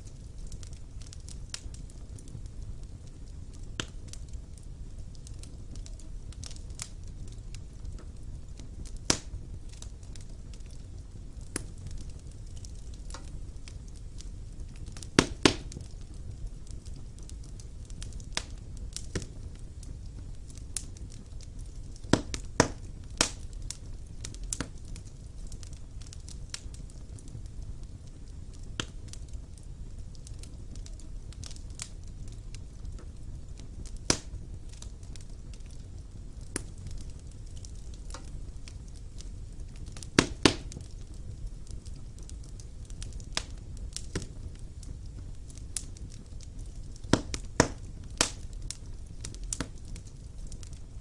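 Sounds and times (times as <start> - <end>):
fire crackling and popping: 0.0 - 51.0
fire flames rumbling: 0.0 - 51.0.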